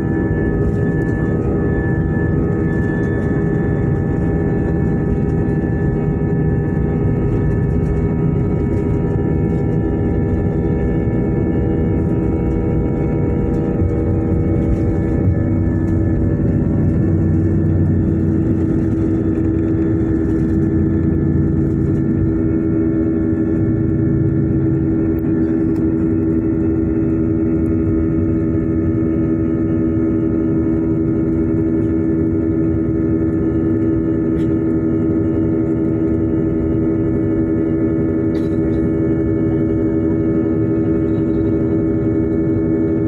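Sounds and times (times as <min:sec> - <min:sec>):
jet engines droning in cabin: 0:00.0 - 0:43.0.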